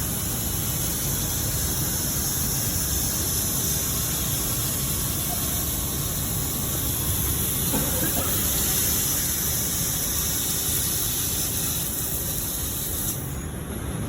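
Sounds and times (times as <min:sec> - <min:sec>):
cutting torch hissing: 0:00.0 - 0:13.5.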